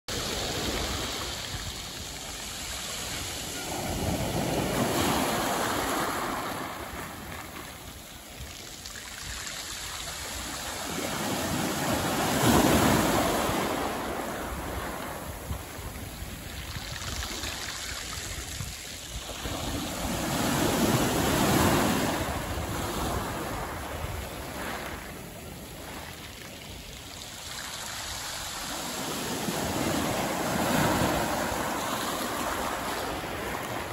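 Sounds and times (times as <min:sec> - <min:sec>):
waves washing over pebbles: 0:00.1 - 0:33.9.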